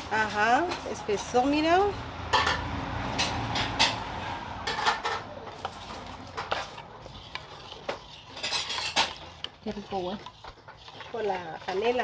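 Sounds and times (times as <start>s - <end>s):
spoons scraping a metal pot: 0.0s - 12.0s.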